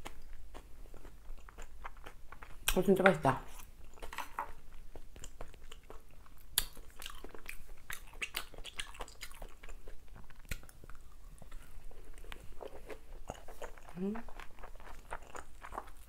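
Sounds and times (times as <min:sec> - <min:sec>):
close chewing and mouth sounds: 0:00.0 - 0:16.0.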